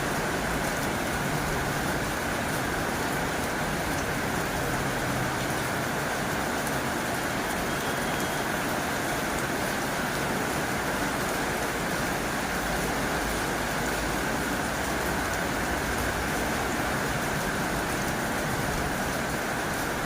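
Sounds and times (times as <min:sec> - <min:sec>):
heavy rain on a tin roof: 0:00.0 - 0:20.0.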